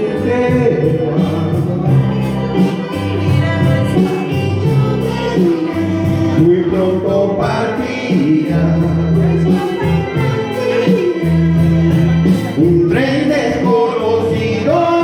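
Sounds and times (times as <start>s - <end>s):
music with singing: 0.0s - 15.0s.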